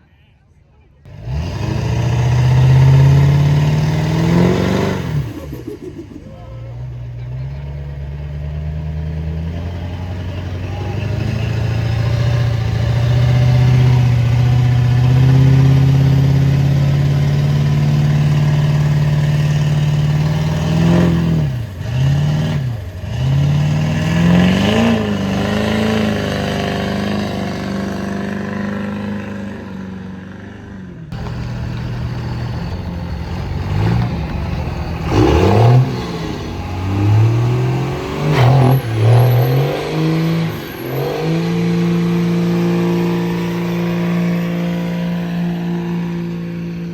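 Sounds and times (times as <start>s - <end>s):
truck engine revving: 1.0s - 46.9s.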